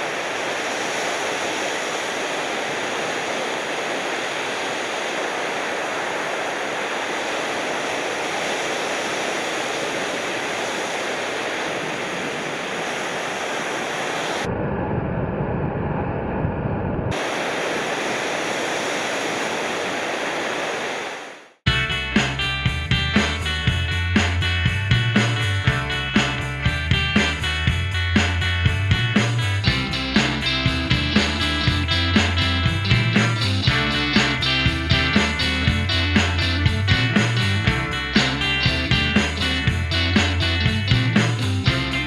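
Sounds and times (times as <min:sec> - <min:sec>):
waves breaking: 0:00.0 - 0:14.5, 0:17.1 - 0:21.6, 0:22.2 - 0:42.0.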